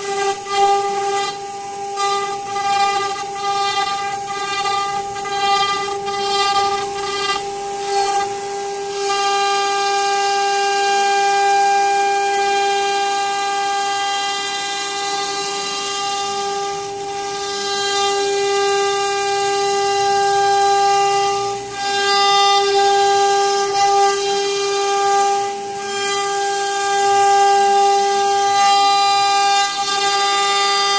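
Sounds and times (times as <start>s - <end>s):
bit cutting wood hiss: 0.0s - 30.9s
router spindle whine: 0.0s - 30.9s.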